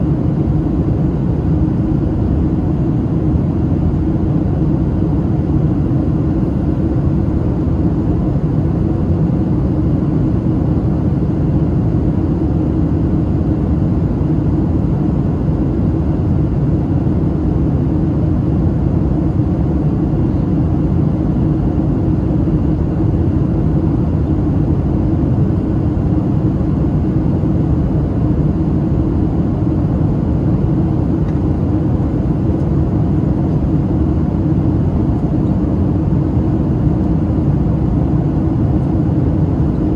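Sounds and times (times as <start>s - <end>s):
airflow over fuselage: 0.0s - 39.9s.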